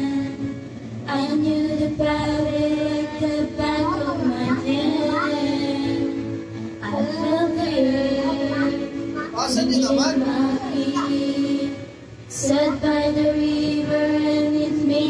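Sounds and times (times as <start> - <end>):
girls singing into microphones: 0.0 - 15.0
music backing track: 0.0 - 15.0.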